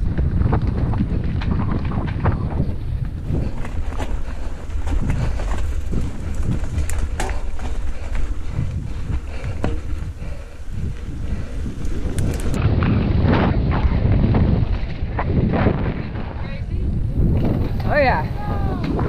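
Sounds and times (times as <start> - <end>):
bike rattling and knocking: 0.0 - 16.4
bike tyres on dirt: 0.0 - 19.0
wind buffeting microphone: 0.0 - 19.0.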